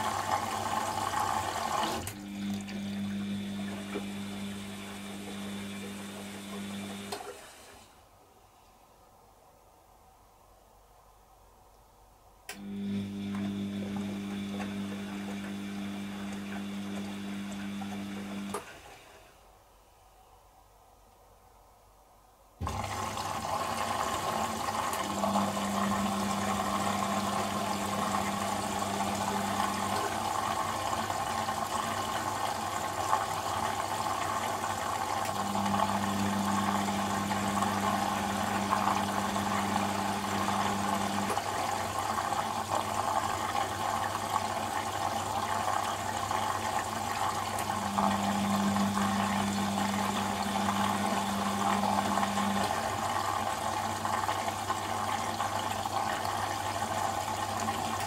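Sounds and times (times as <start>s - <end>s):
washing machine water rushing: 0.0s - 7.9s, 12.6s - 19.3s, 22.6s - 58.0s.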